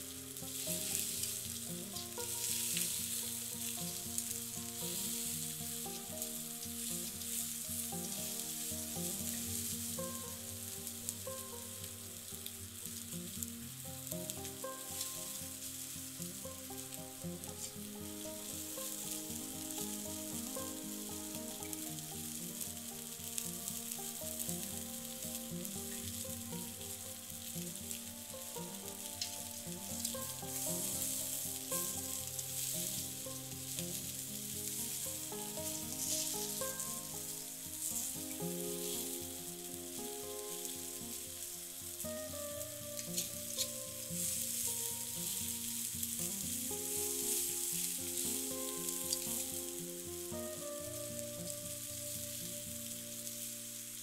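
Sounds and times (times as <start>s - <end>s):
background music: 0.0s - 54.0s
food sizzling and popping: 0.0s - 54.0s.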